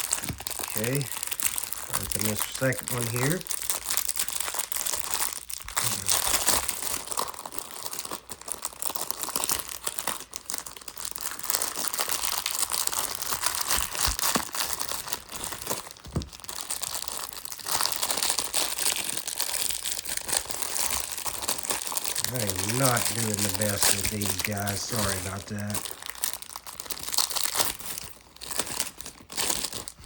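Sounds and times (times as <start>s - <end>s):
plastic wrapper crinkling: 0.0s - 30.0s.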